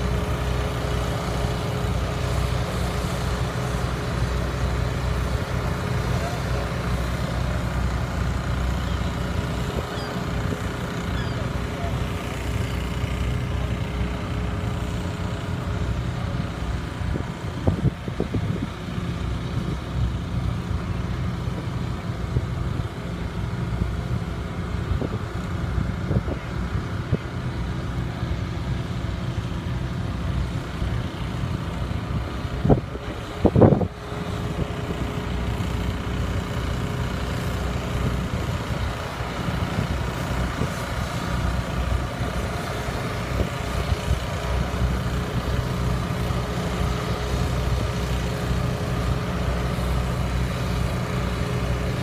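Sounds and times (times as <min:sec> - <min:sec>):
boat motor droning: 0:00.0 - 0:52.0.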